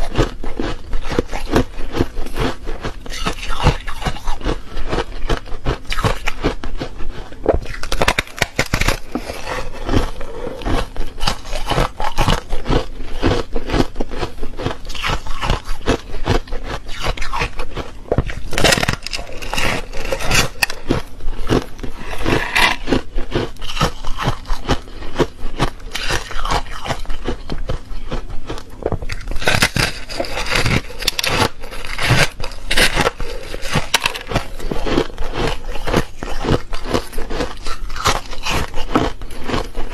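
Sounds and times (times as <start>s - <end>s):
teeth crunching ice: 0.0s - 39.9s.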